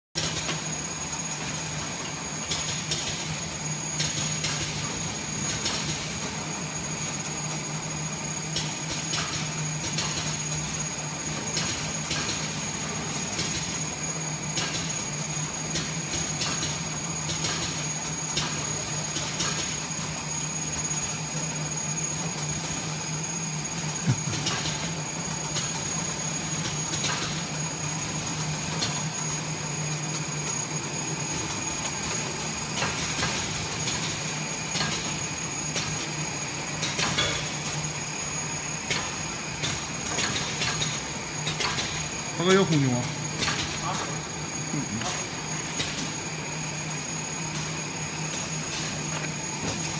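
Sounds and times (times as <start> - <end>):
machine motor hum: 0.2 - 49.9.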